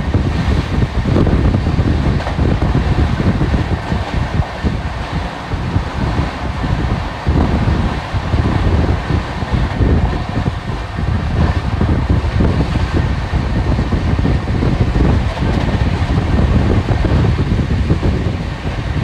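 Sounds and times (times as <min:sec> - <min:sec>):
train rushing rumble: 0:00.0 - 0:19.0.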